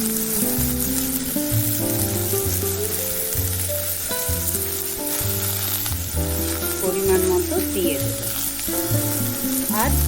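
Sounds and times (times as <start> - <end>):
background music of held notes: 0.0 - 10.0
vegetables sizzling in oil: 0.0 - 10.0.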